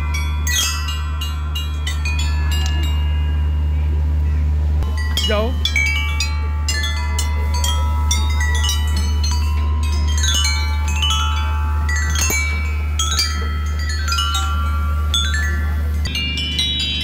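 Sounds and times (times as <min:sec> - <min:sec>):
metallophone notes ringing: 0:00.0 - 0:17.0
steady low hum: 0:00.0 - 0:17.0.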